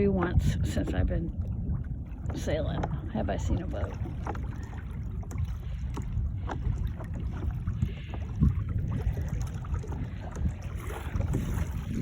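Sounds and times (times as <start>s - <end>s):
water splashing against hull: 0.0s - 12.0s
wind rumbling on microphone: 0.0s - 12.0s.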